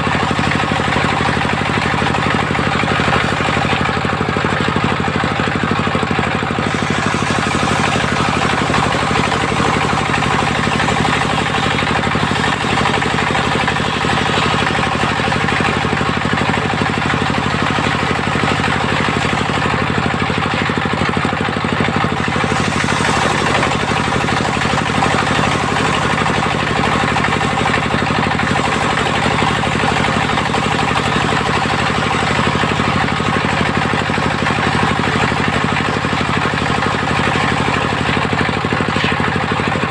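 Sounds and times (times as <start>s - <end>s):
sawmill running: 0.0s - 39.9s.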